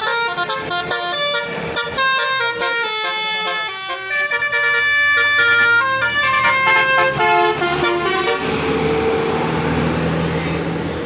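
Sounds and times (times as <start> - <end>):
bus horn playing a tune: 0.0 - 9.9
bus engine running: 0.0 - 11.0.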